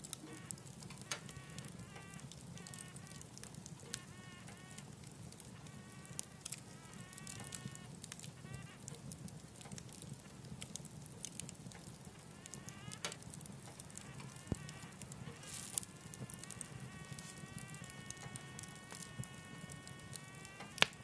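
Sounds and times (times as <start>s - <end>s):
low rumble of flame: 0.0s - 21.0s
whistle from burning wood: 0.0s - 21.0s
wood fire crackling and popping: 0.0s - 21.0s.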